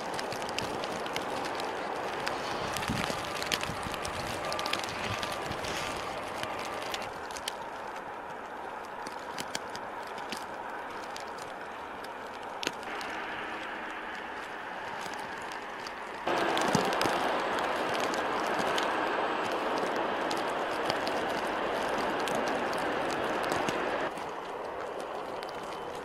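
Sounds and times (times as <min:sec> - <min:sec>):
faint vehicle sound: 0:00.0 - 0:26.0.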